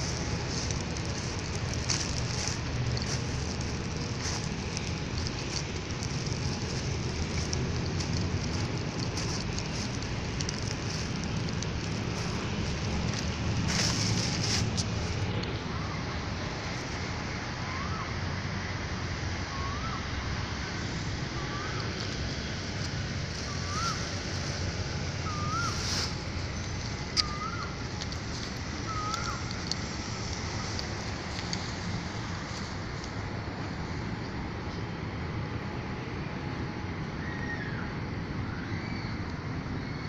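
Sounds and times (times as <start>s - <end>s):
distant traffic: 0.0s - 40.0s
wind: 0.0s - 40.0s.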